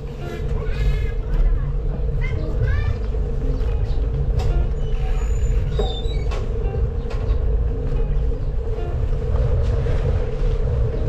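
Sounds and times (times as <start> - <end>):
bike road rumble: 0.0 - 11.0
wind buffeting on microphone: 0.0 - 11.0.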